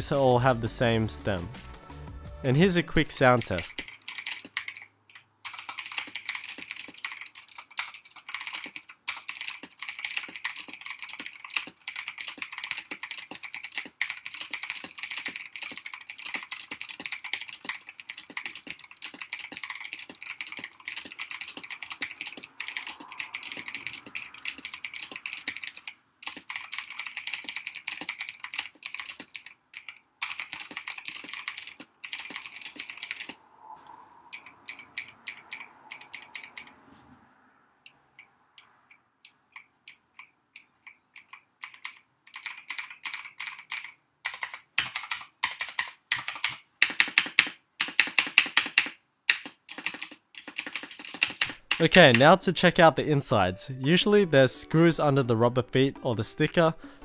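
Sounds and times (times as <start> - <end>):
clicky mechanical keyboard typing: 3.2 - 33.4, 34.3 - 36.8, 39.3 - 52.4.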